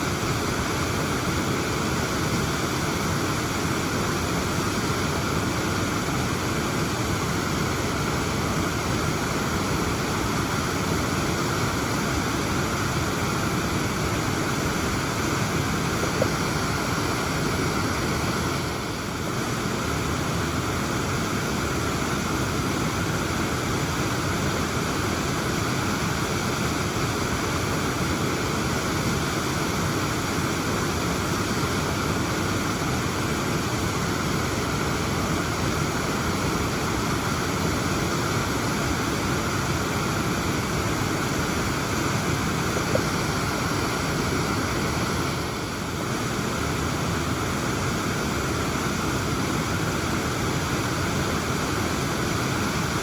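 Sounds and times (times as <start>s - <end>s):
waterfall cascading: 0.0s - 53.0s.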